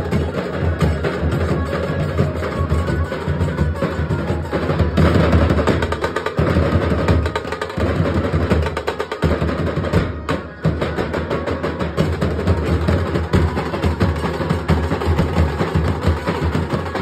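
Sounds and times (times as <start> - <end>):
dhol drums beaten fast: 0.0 - 17.0.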